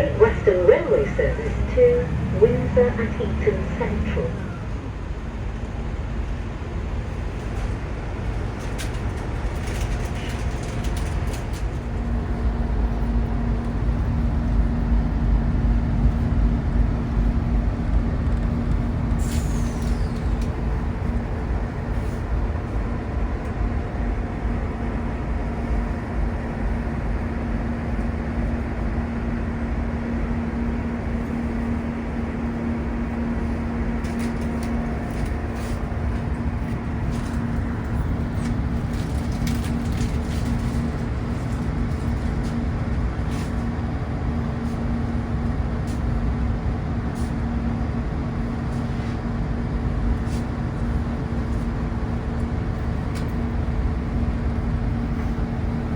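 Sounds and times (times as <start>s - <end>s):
diesel train rumble and hum: 0.0s - 55.9s.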